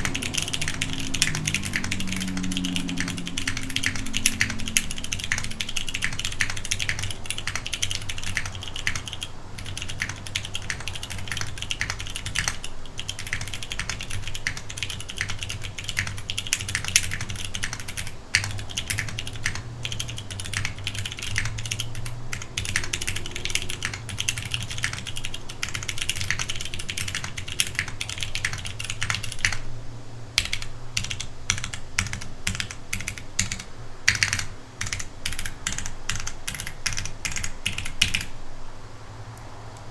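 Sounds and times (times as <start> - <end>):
keyboard keystrokes clicking: 0.0 - 29.6, 30.4 - 38.3.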